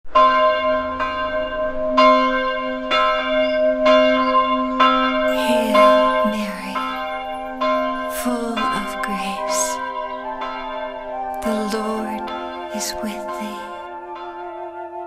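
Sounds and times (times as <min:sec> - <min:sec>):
church bell tolling: 0:00.1 - 0:15.0.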